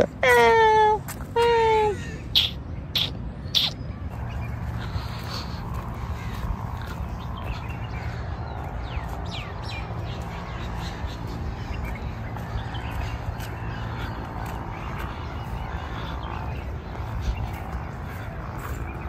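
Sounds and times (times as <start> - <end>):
birds calling: 0.0 - 19.0
steady low rumble: 0.0 - 19.0.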